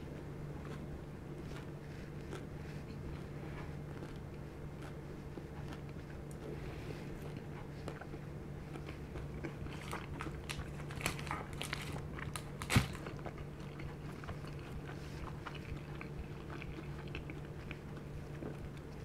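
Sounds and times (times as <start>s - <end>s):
crunchy chewing: 0.0s - 19.0s
low steady hum: 0.0s - 19.0s.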